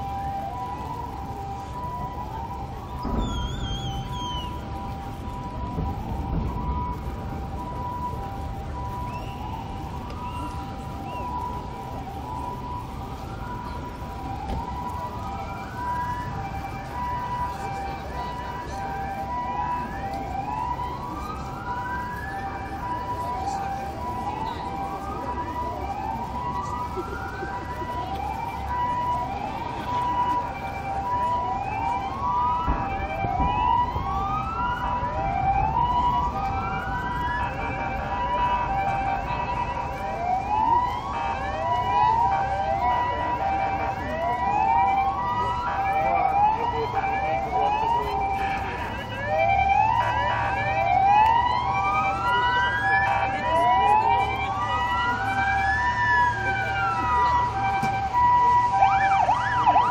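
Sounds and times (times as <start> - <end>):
low crowd rumble: 0.0 - 59.9.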